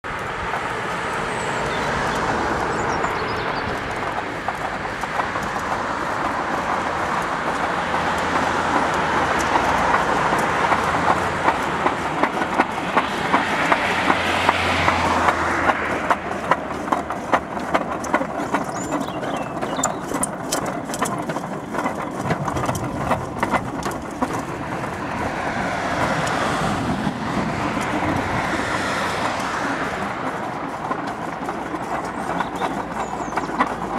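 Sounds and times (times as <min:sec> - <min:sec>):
wheels rumbling on rails: 0:00.0 - 0:33.9
rhythmic clicking: 0:00.1 - 0:33.9.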